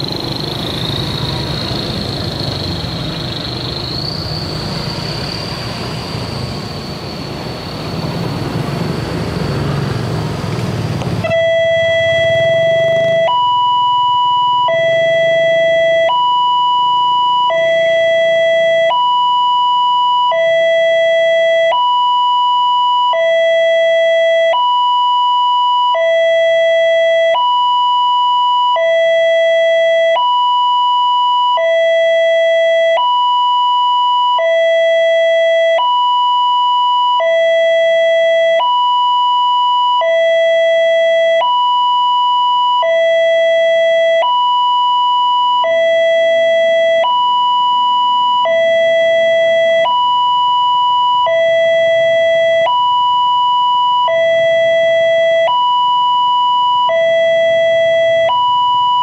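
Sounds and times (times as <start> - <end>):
level crossing two-tone alarm: 0.0 - 8.3, 11.2 - 59.0.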